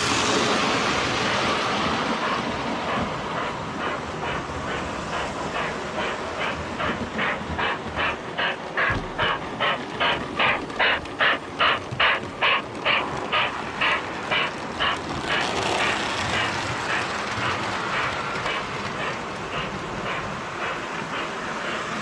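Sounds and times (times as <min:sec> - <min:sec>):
model steam locomotive chuffing: 0:00.0 - 0:22.0
train rolling on track: 0:00.0 - 0:22.0.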